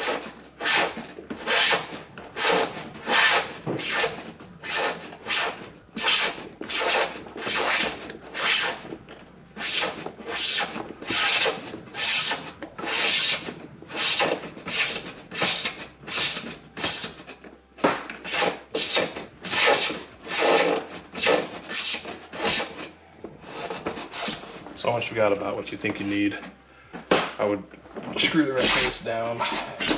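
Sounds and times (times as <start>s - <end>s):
cables rubbing through bracket: 0.0s - 26.6s, 27.3s - 29.9s.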